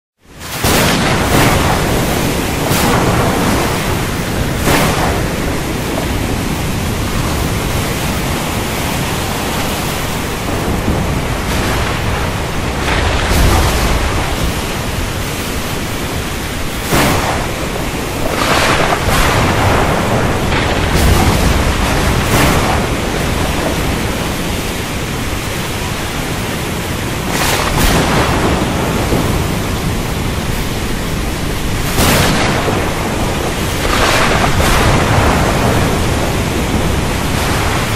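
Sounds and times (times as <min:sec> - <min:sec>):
rain: 0:00.2 - 0:37.9
wind: 0:00.2 - 0:37.9
sharp thunder cracks: 0:00.4 - 0:25.8, 0:27.2 - 0:37.9
deep thunder rumbles: 0:00.4 - 0:37.9.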